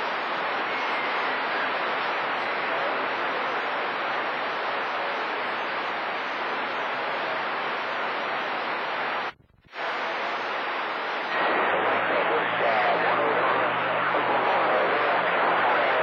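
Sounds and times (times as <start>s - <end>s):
distant radio station signal: 0.0s - 16.0s
radio static hiss: 0.0s - 16.0s.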